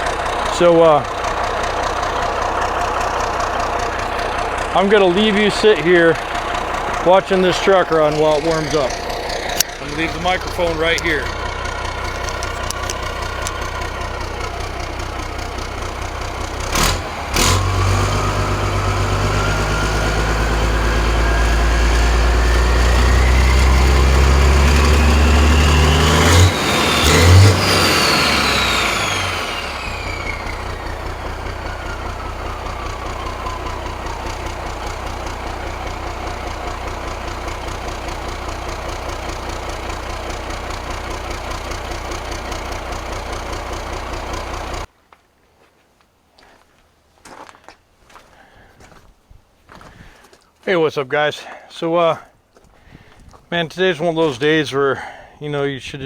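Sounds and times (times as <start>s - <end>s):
diesel truck engine running: 0.0s - 44.9s
engine knock: 0.0s - 44.9s
rising engine whine: 0.0s - 44.9s.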